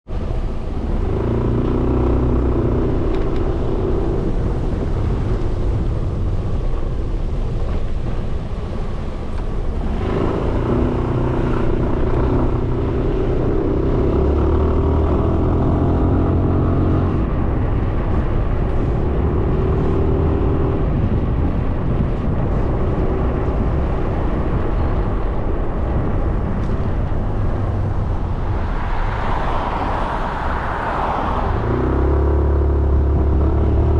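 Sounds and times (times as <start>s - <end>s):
road and wind noise: 0.0s - 33.9s.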